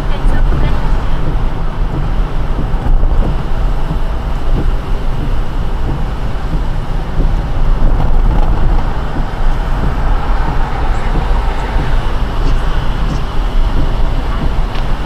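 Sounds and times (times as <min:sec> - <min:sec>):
car tyres on wet road: 0:00.0 - 0:15.0.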